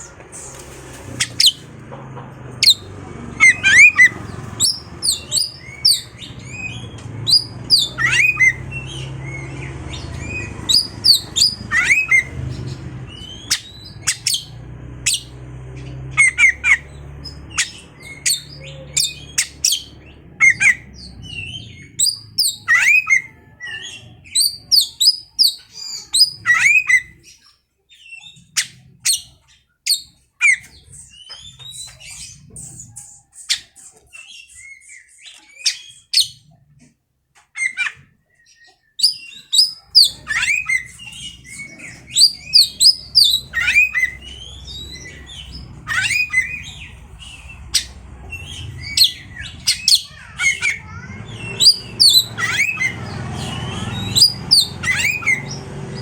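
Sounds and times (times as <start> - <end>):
songbird singing: 0.0 - 36.8, 37.4 - 56.0.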